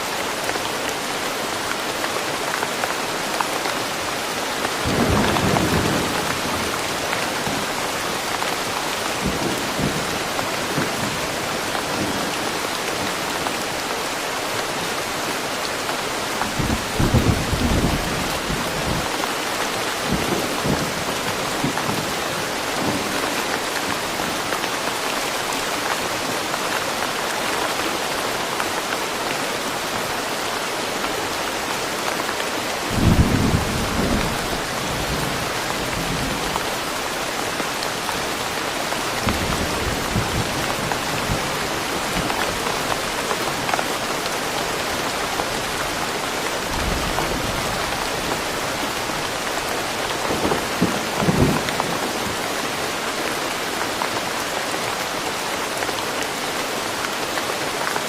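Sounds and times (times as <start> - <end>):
steady rain in woodland: 0.0 - 58.0.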